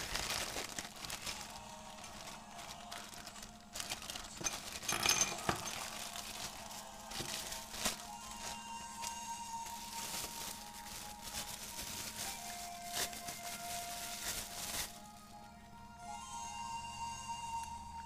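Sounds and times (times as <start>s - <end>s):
plastic and bubble wrap crinkling: 0.0s - 15.7s.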